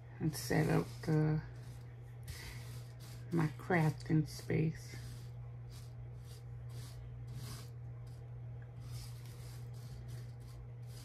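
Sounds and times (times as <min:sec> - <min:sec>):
steady low hum: 0:00.0 - 0:11.0
brush sweeping rhinestones: 0:00.2 - 0:11.0.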